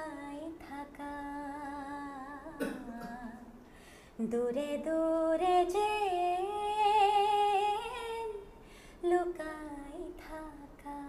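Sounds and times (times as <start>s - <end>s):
woman singing unaccompanied: 0.0s - 3.6s, 4.2s - 11.0s.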